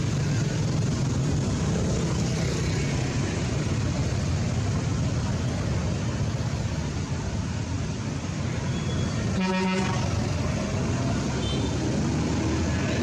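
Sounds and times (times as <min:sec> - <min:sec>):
low rumble of motor traffic: 0:00.0 - 0:13.0.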